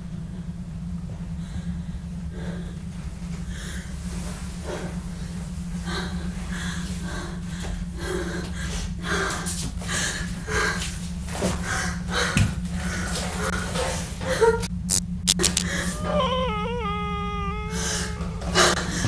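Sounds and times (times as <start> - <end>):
low steady hum: 0.0 - 19.0
woman breathing heavily and gasping: 1.3 - 14.7, 15.5 - 19.0.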